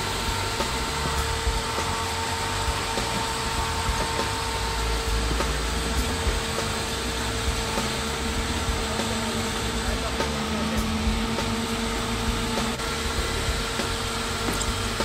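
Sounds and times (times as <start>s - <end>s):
truck engine running at low speed: 0.0s - 15.0s.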